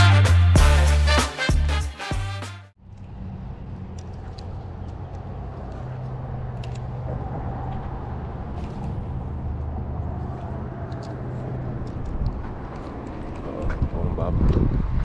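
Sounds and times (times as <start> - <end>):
low rumble of road traffic: 2.8 - 15.0.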